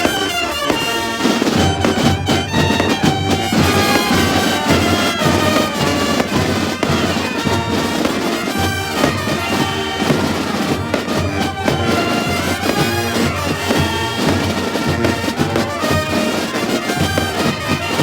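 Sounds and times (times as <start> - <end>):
firework bangs and crackles: 0.0 - 18.0
reedy melody over steady beat: 0.0 - 18.0.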